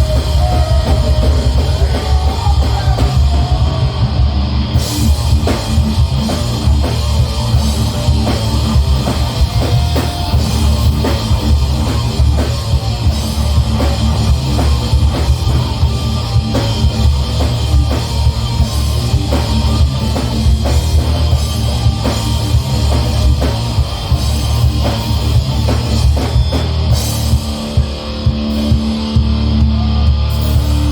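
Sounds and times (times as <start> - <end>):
fast dense drumming: 0.0 - 30.9
heavy metal band playing live: 0.0 - 30.9.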